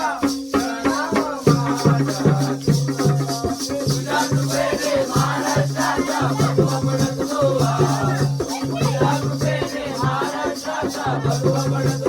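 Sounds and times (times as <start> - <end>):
drum rhythm: 0.0 - 12.0
jingling percussion: 0.0 - 12.0
man singing: 0.0 - 12.0.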